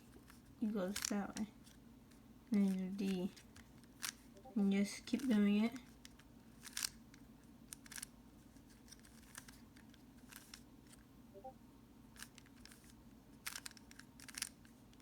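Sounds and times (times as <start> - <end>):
puzzle cube clicking and scraping: 0.0 - 1.8, 2.5 - 11.0, 12.2 - 14.8.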